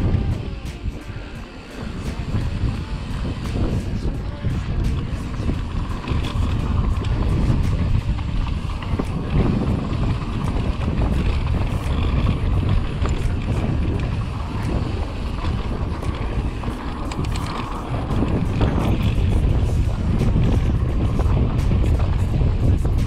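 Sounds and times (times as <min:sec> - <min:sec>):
bike clicking and rattling: 0:00.0 - 0:23.0
bike tyres rumbling on dirt: 0:00.0 - 0:23.0
wind buffeting microphone: 0:00.0 - 0:23.0.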